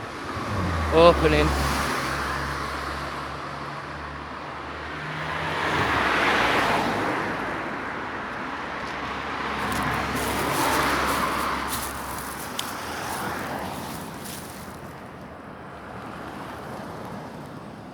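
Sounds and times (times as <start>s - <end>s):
cars passing: 0.0s - 17.9s
low steady traffic rumble: 0.0s - 17.9s.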